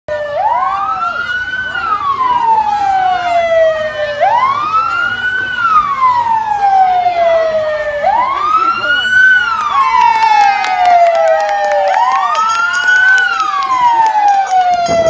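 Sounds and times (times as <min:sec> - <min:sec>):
emergency vehicle siren wailing: 0:00.1 - 0:15.0.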